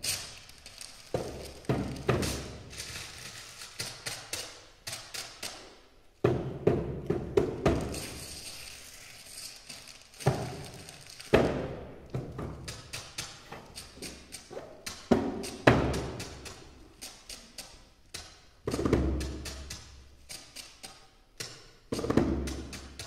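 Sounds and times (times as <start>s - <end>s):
paper strikes: 0.0s - 5.6s, 6.2s - 19.8s.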